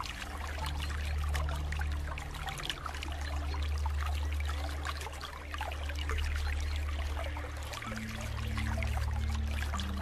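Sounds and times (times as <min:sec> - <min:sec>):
low steady drone: 0:00.0 - 0:10.0.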